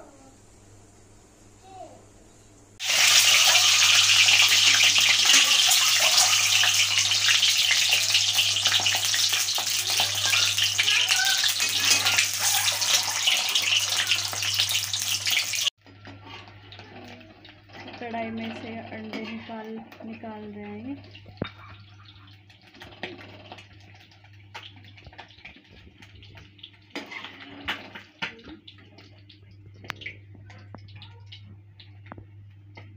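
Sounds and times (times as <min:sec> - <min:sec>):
eggs frying in hot oil: 0:02.8 - 0:32.9.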